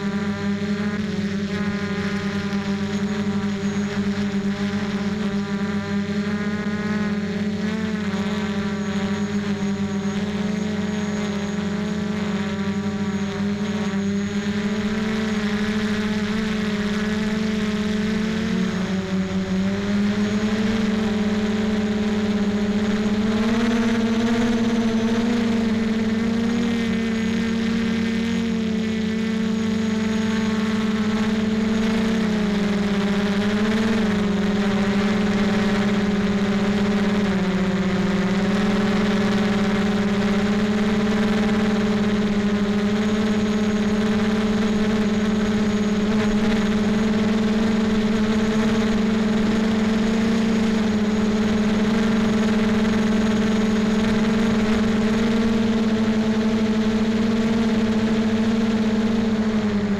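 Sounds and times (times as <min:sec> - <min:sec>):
drone motor and propeller whine: 0:00.0 - 0:59.9.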